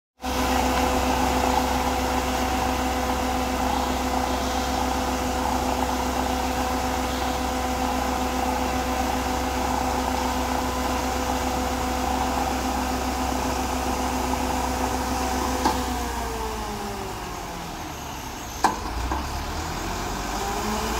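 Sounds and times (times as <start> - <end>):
concrete mixer pump droning: 0.2 - 20.9.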